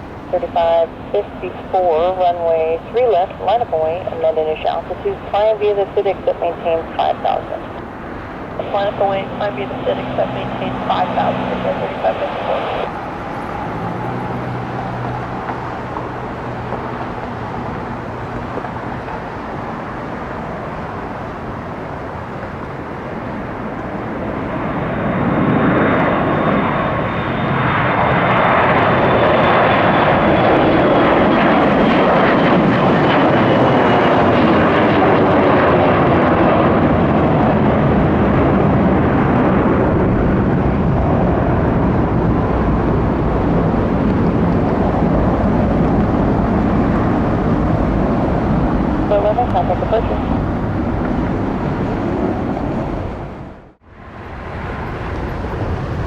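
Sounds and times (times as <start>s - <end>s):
jet airliner engines at takeoff: 0.0s - 56.0s.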